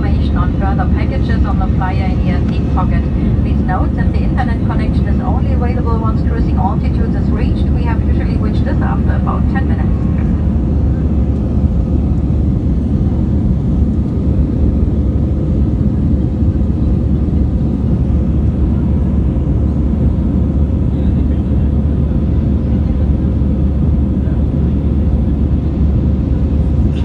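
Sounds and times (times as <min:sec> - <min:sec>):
aircraft cabin engine rumble: 0:00.0 - 0:27.0.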